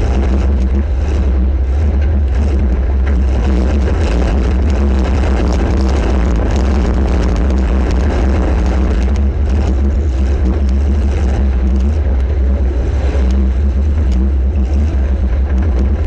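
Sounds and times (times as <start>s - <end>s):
car engine rumbling: 0.0s - 16.0s
sharp knocks and rattles: 0.0s - 16.0s.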